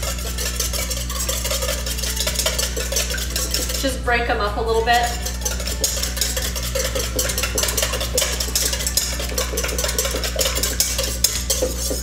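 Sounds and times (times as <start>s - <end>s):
whisk clinking in metal bowl: 0.0s - 4.0s, 4.9s - 12.0s.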